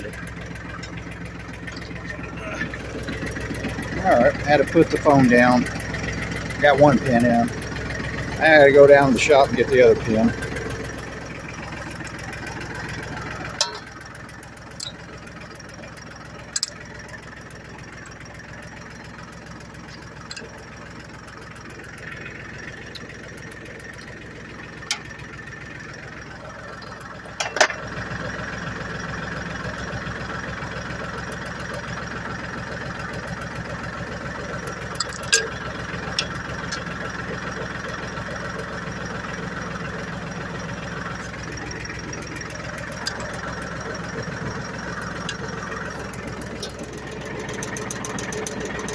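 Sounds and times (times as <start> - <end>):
tractor diesel engine idling: 0.0 - 48.9.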